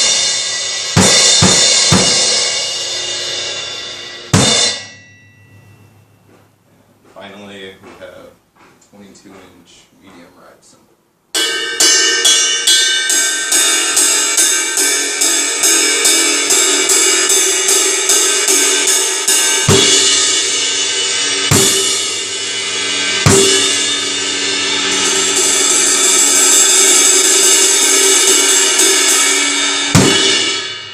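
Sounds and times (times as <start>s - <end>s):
ride cymbal played with a stick: 0.0s - 6.2s, 11.4s - 30.9s.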